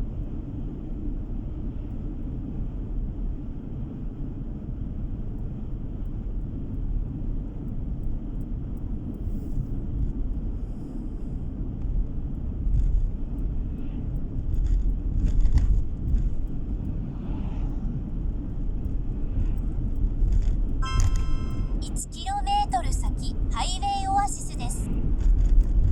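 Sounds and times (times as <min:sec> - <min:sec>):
car interior road rumble: 0:00.0 - 0:25.9.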